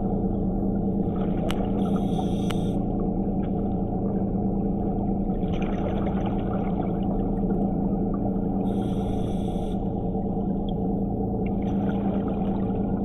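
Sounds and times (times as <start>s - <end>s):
underwater scooter motor humming: 0.0s - 13.0s.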